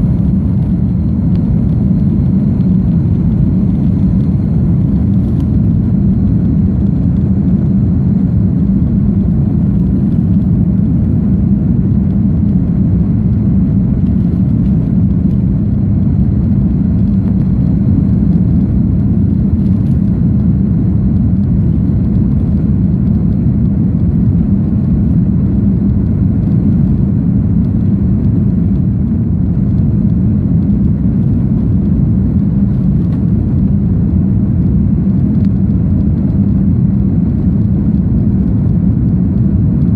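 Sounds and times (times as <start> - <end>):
faint high whine: 0.0 - 38.2
jet engine cabin rumble: 0.0 - 39.9.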